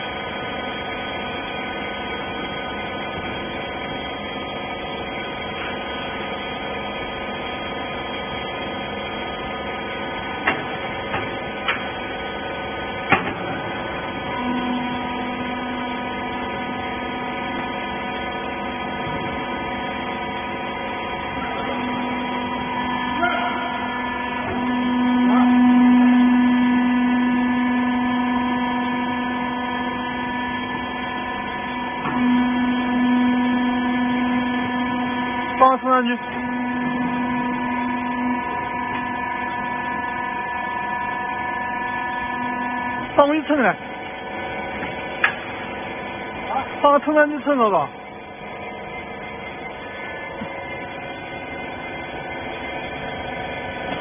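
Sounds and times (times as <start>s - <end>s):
baler motor and pump hum: 0.0s - 54.0s.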